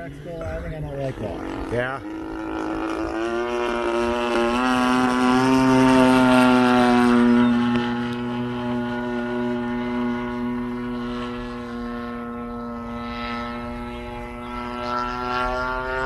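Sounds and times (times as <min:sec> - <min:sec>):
model airplane engine buzzing: 0:00.0 - 0:16.0.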